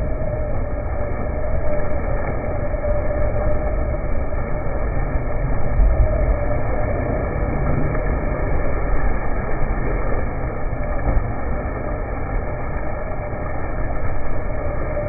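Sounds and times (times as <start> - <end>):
faint motor whine: 0.0 - 15.0
rumble of churning water: 0.0 - 15.0.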